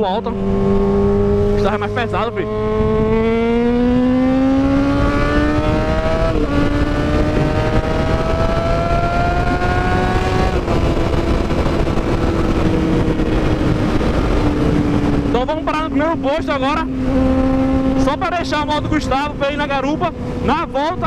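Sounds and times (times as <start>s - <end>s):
motorcycle engine revving: 0.0s - 21.0s
wind on microphone: 0.0s - 21.0s.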